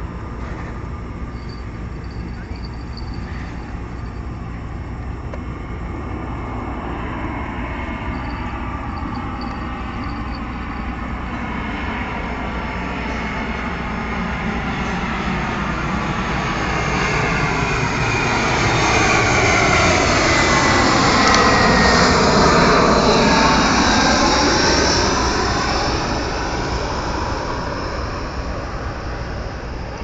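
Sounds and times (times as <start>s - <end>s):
airliner passing overhead: 0.0s - 30.0s.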